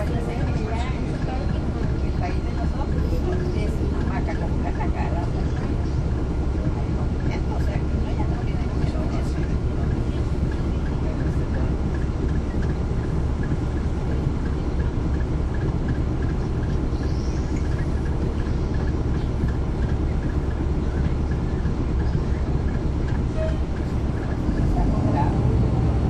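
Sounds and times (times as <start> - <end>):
faint regular ticking: 0.0 - 24.7
bus diesel engine rumble: 0.0 - 26.0.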